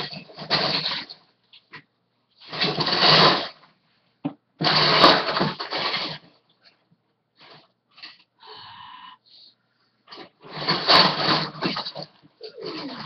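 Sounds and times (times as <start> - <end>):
objects rustling and rattling: 0.0 - 8.4, 10.0 - 13.0.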